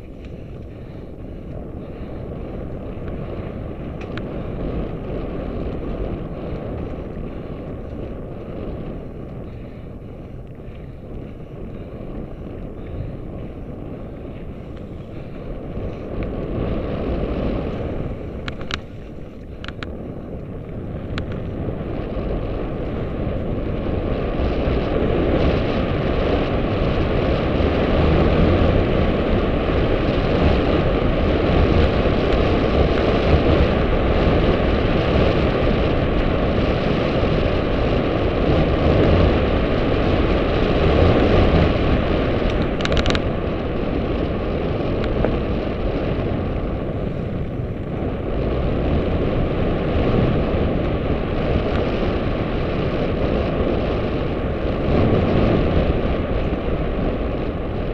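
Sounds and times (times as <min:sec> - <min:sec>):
tyres rumbling on dirt trail: 0:00.0 - 0:57.9
wind rushing over microphone: 0:00.0 - 0:57.9.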